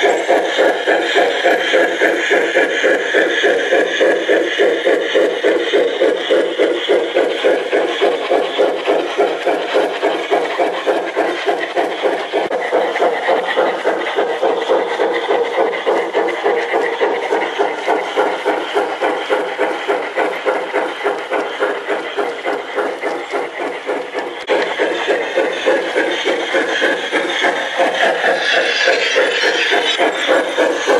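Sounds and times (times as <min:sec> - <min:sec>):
model trains running on track: 0:00.0 - 0:30.9.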